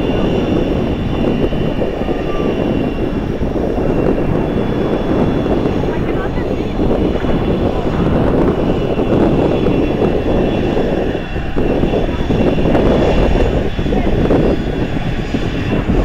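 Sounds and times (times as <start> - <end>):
high engine whine: 0.0 - 16.0
jet engines roaring: 0.0 - 16.0.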